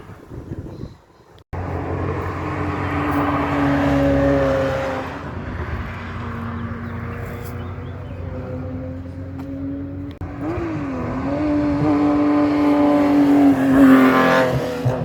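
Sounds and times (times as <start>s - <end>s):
racing car engine passing by: 1.6s - 15.0s.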